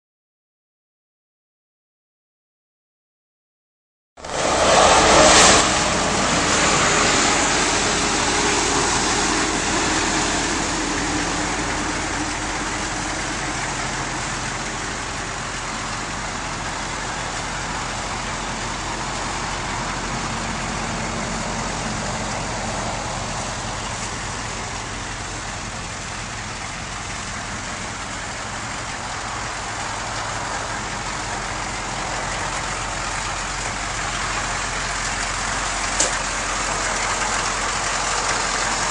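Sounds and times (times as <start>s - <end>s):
diesel engine running: 4.2s - 38.9s.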